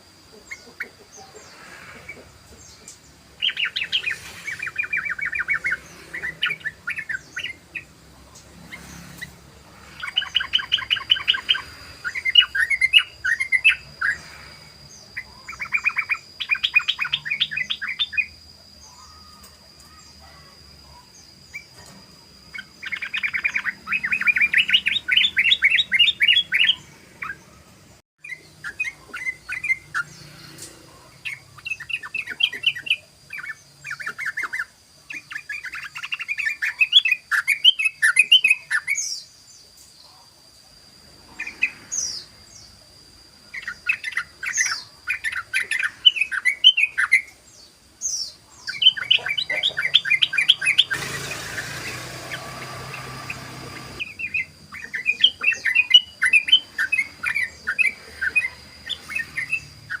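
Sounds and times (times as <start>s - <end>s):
bulbul chattering song: 0.0s - 20.2s, 20.8s - 40.2s, 41.2s - 60.0s.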